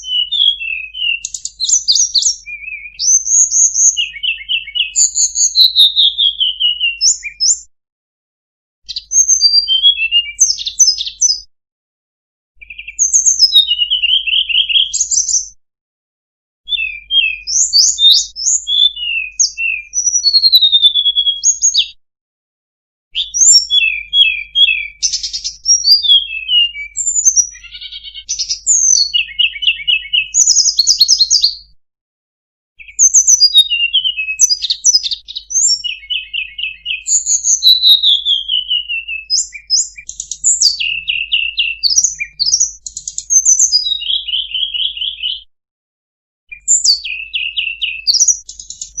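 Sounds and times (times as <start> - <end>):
bird singing trills and whistles: 0.0 - 7.7, 8.9 - 11.5, 12.6 - 15.6, 16.7 - 22.0, 23.1 - 31.8, 32.8 - 45.5, 46.5 - 49.0.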